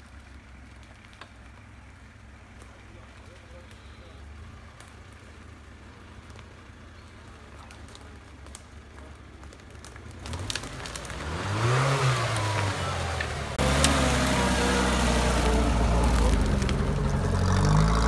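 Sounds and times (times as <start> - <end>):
off-road vehicle engine revving: 2.6 - 18.0.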